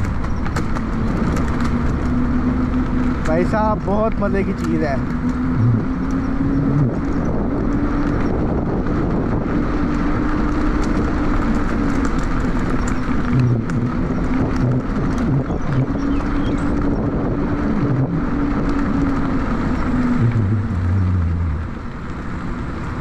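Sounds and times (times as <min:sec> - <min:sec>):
tyre rumble: 0:00.0 - 0:21.9
wind noise: 0:00.0 - 0:23.0
electric motor hum: 0:00.4 - 0:22.0.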